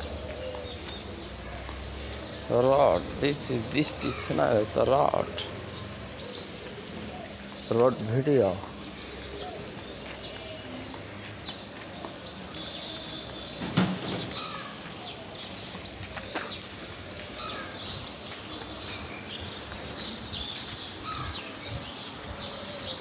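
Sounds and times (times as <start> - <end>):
small birds chirping: 0.0 - 23.0
street background noise: 0.0 - 23.0.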